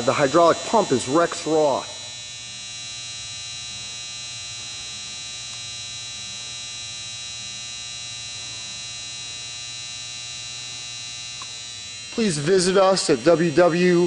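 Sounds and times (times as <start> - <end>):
hydraulic motor humming and whining: 0.0 - 14.0.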